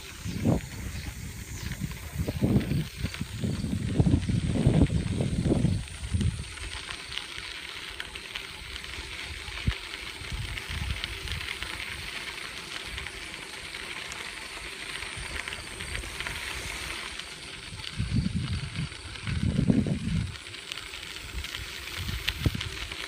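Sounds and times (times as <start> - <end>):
bicycle tyres rolling on trail: 0.0 - 23.0.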